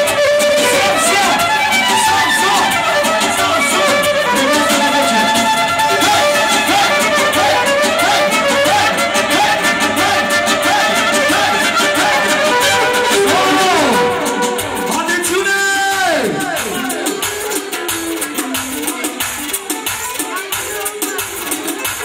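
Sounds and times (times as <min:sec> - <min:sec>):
violin melody: 0:00.0 - 0:19.2
band playing dance music: 0:00.0 - 0:22.0.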